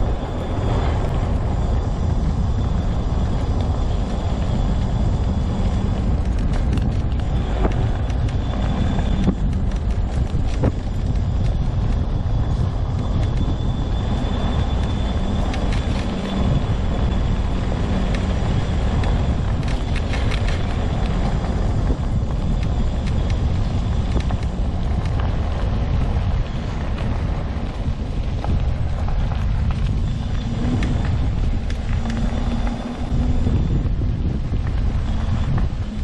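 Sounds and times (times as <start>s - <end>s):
faint high whine: 0.0s - 36.0s
rumble of rolling wheels: 0.0s - 36.0s.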